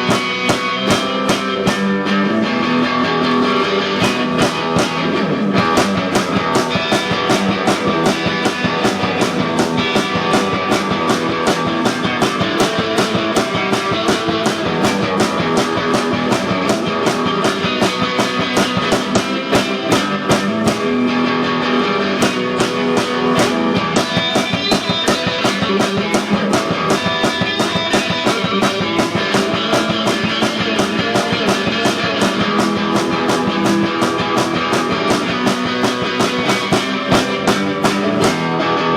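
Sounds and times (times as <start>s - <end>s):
fast drum beat: 0.0s - 38.6s
electric guitar: 0.0s - 38.9s.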